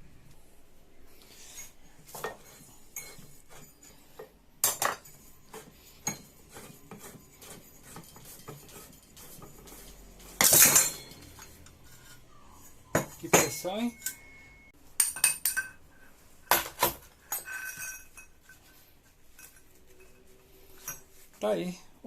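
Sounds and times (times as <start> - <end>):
metal tools clinking and scraping: 1.2 - 21.6.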